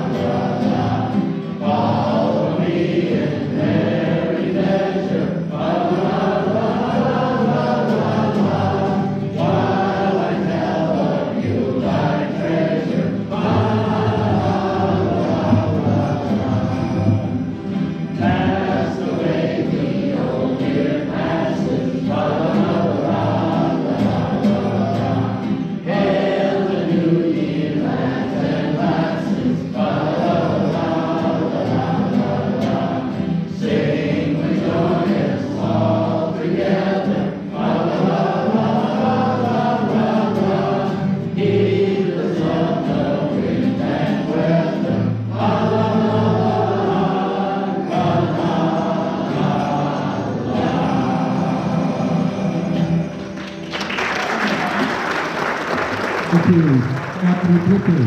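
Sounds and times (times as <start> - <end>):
congregation singing: 0.0 - 58.0.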